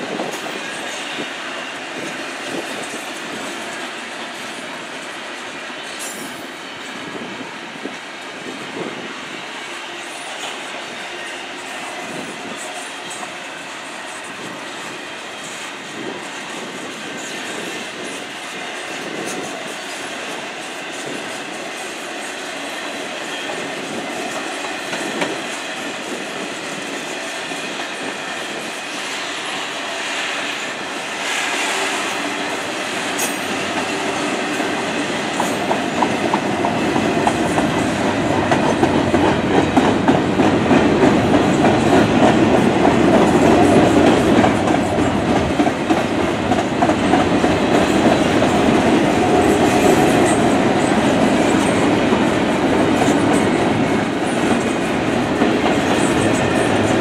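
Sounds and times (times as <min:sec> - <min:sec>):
freight train rolling over bridge: 0:00.0 - 0:57.0.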